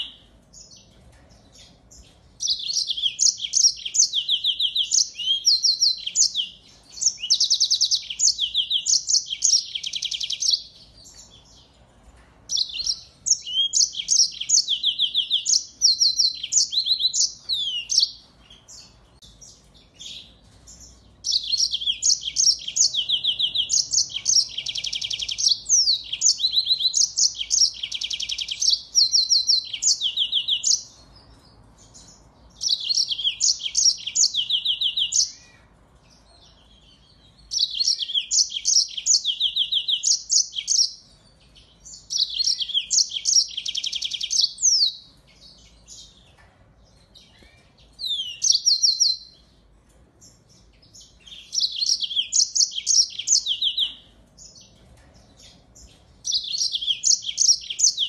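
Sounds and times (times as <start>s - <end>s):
canary singing trills: 0.0s - 11.9s, 12.5s - 58.0s.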